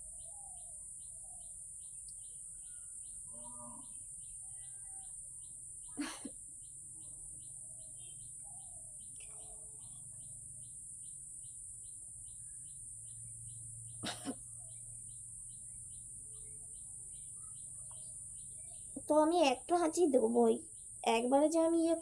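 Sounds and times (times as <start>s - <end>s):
constant high hiss: 0.0s - 22.0s.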